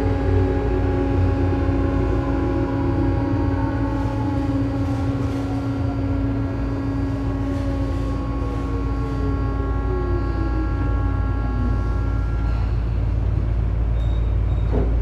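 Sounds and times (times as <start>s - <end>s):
motor tone sliding down in pitch: 0.0s - 13.5s
electric train chopper whine: 0.0s - 14.5s
train running rumble: 0.0s - 15.0s.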